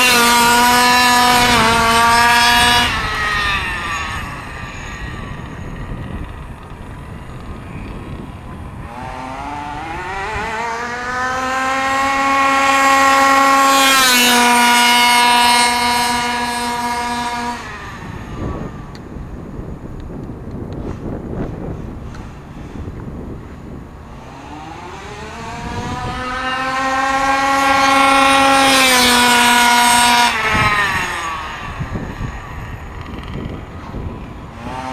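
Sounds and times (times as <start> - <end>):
model car engine whine: 0.0 - 34.9.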